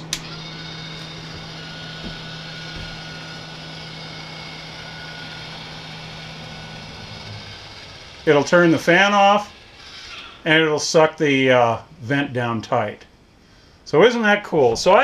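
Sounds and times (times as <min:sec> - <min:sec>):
vent fan humming: 0:00.0 - 0:15.0.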